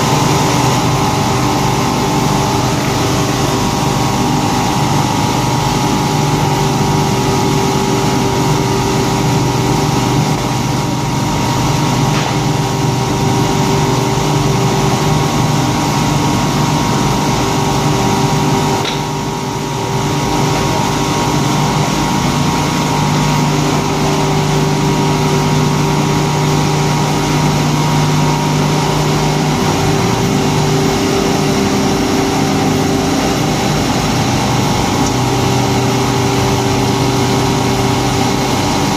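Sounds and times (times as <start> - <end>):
grinding machine humming: 0.0 - 38.9.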